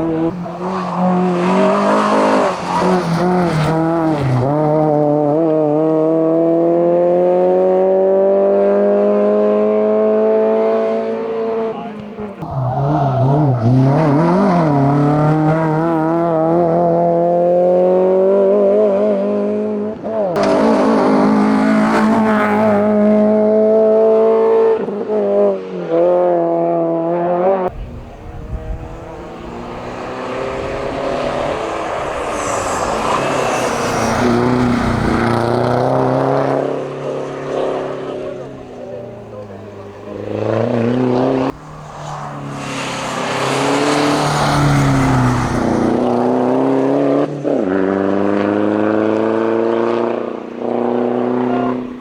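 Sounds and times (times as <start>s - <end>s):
race car engine revving: 0.0s - 52.0s
race car passing under power: 0.0s - 52.0s.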